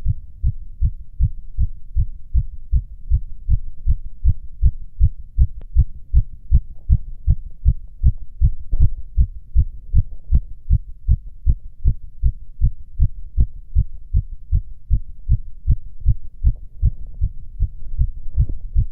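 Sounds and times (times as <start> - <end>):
heartbeat through stethoscope: 0.0 - 18.9.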